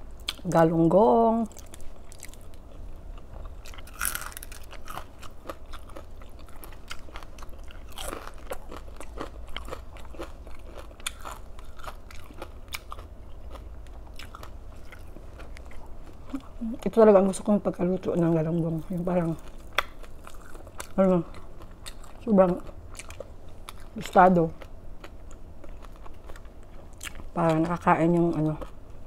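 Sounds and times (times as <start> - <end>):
crunchy chewing: 1.5 - 16.6, 18.8 - 28.8.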